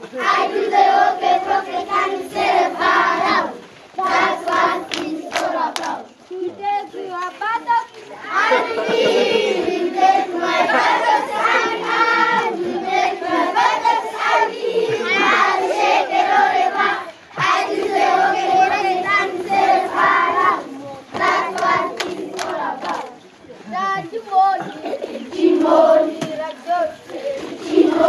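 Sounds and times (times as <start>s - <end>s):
children singing in unison: 0.0s - 6.6s, 8.1s - 23.3s, 24.0s - 28.0s.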